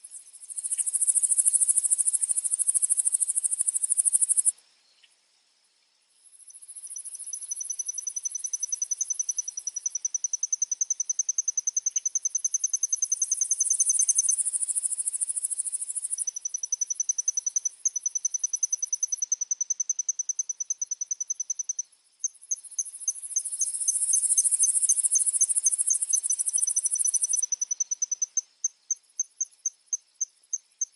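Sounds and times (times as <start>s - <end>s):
cricket trill: 0.0s - 5.2s, 6.2s - 30.9s.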